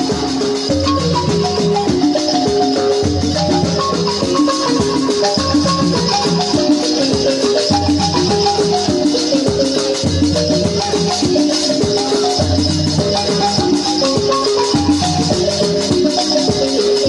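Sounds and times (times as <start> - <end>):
high rattling percussion: 0.0 - 17.0.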